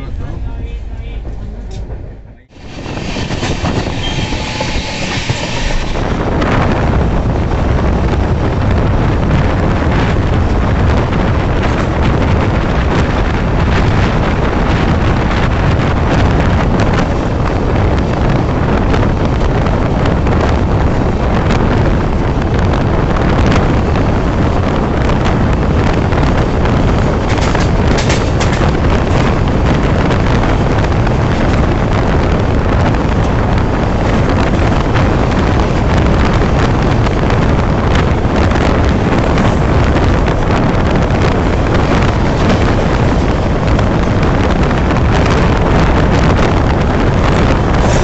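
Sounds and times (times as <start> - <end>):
train wheels rumbling on rails: 0.0 - 48.0
wind noise on microphone: 0.0 - 48.0.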